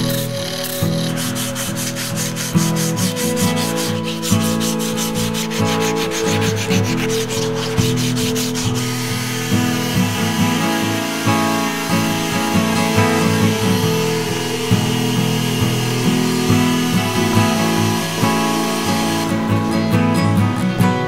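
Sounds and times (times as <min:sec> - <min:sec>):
sandpaper rasping on wood: 0:00.0 - 0:19.8
guitar music: 0:00.0 - 0:21.0.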